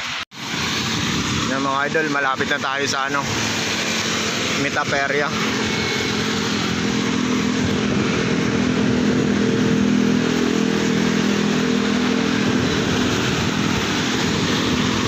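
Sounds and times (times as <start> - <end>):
bicycle tyres on wet road: 0.0 - 15.0
motor vehicle engine hum: 0.0 - 15.0.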